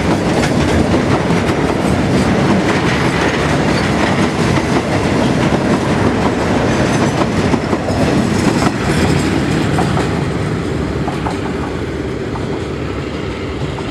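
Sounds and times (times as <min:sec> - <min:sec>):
train wheels clattering on rails: 0:00.0 - 0:13.9.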